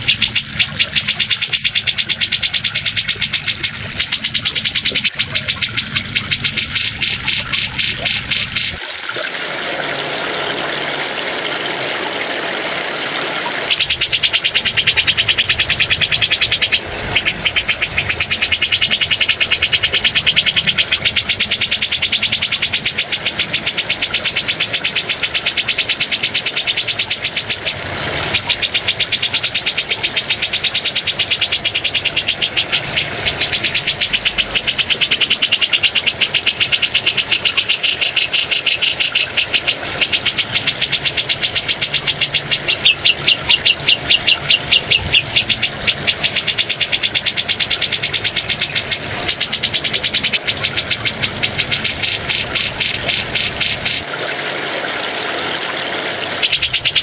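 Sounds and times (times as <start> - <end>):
running water hiss: 0.0 - 57.0.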